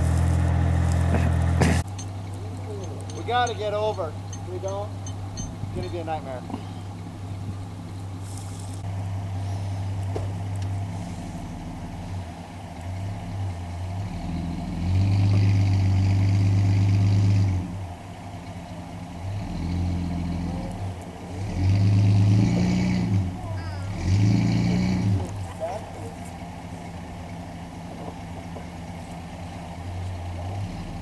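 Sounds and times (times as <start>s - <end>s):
truck engine revving under load: 0.0s - 31.0s.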